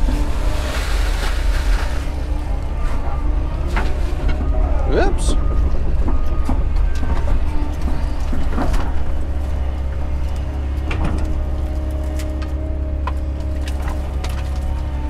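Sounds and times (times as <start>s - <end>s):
excavator bucket clanking: 0.0s - 15.0s
excavator diesel engine droning: 0.0s - 15.0s.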